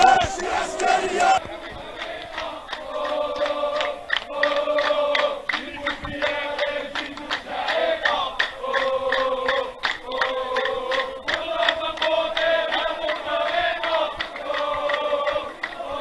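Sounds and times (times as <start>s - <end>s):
crowd chanting in unison: 0.0s - 16.0s
hand claps keeping time: 0.0s - 16.0s.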